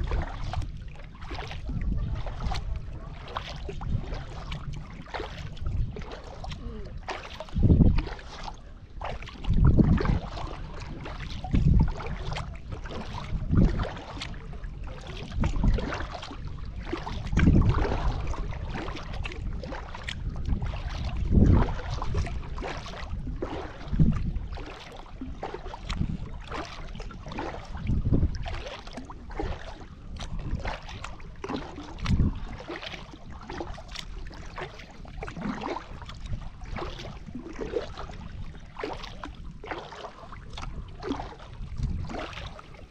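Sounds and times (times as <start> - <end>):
kayak paddle strokes splashing: 0.0 - 42.9.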